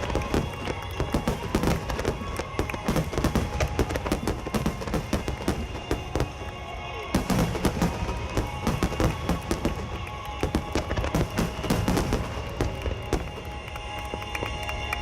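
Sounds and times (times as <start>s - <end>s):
firework shells bursting and crackling: 0.0s - 15.0s
music: 0.0s - 15.0s.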